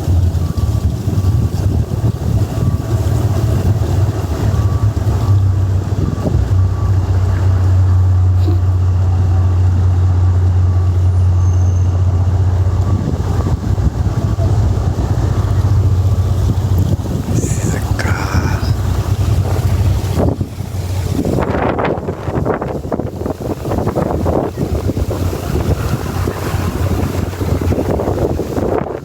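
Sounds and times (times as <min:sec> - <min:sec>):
low engine drone: 0:00.0 - 0:29.0
wind buffeting microphone: 0:00.0 - 0:29.0.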